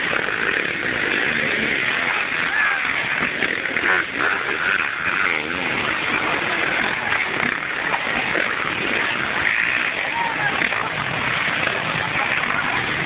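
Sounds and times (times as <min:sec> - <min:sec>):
motocross engines revving: 0:00.0 - 0:13.0.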